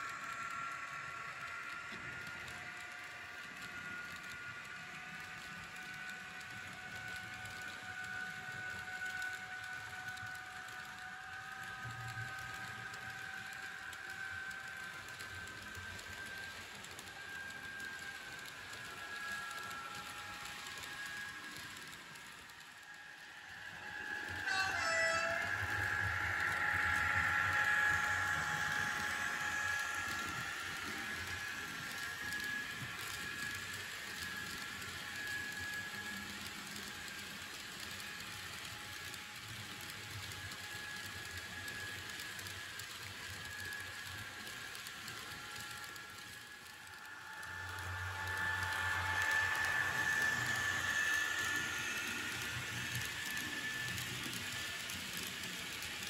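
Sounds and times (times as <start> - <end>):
electric locomotive whine: 0.0 - 56.0
wagons rattling on track: 3.2 - 56.0.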